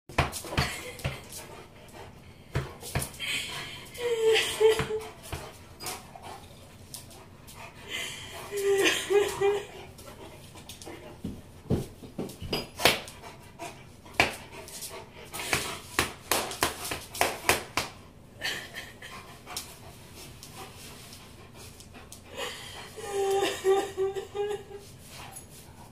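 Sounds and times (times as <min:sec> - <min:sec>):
dog panting and sniffing: 0:00.1 - 0:25.9.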